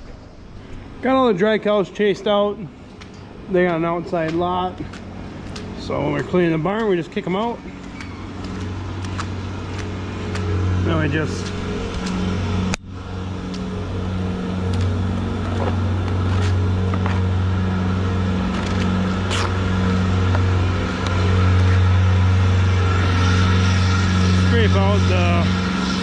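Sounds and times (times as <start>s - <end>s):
farm machine engine running: 4.3s - 26.0s.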